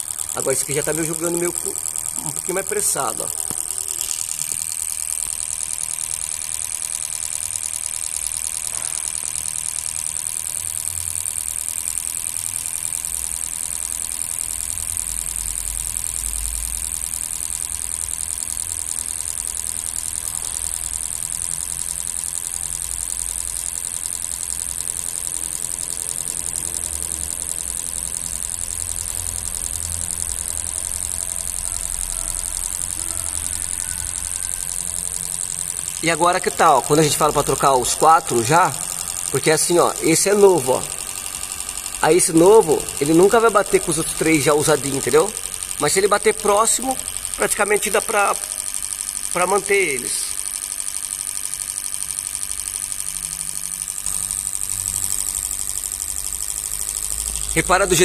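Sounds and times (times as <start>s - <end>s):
fuel injectors pulsing: 0.0s - 58.0s.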